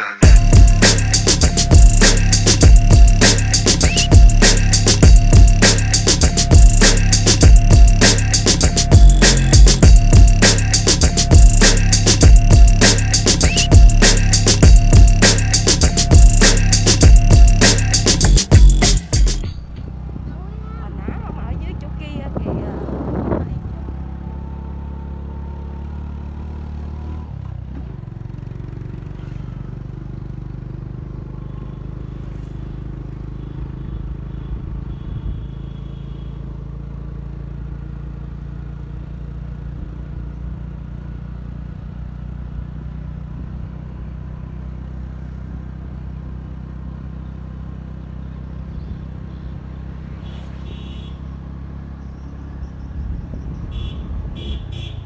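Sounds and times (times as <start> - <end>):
vehicle engine running: 0.2 - 55.0.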